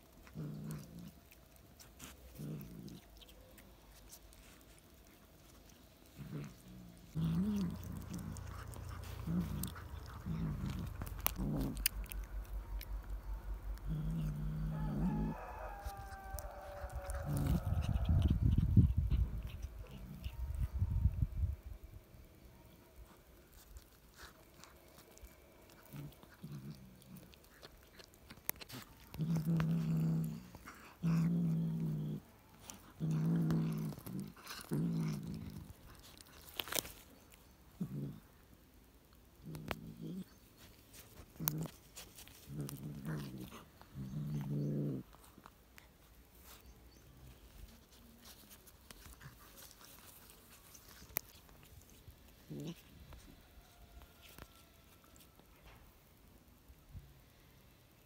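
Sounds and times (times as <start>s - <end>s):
cat chewing and tearing: 0.0s - 56.7s.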